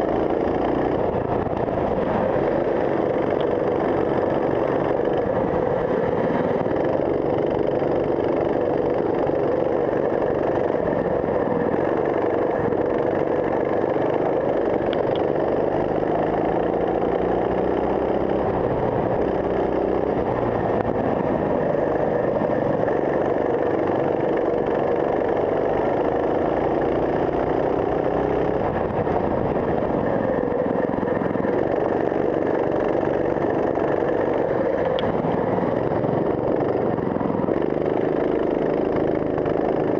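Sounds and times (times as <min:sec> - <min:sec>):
racing kart engine accelerating: 0:00.0 - 0:39.9.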